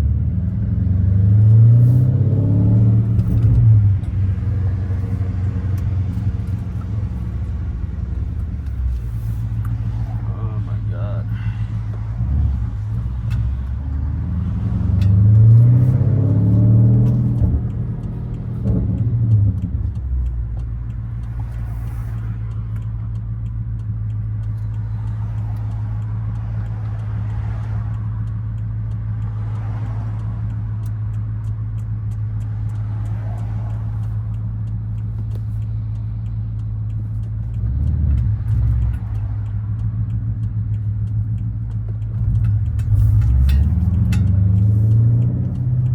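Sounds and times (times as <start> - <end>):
car engine droning and revving: 0.0 - 45.9.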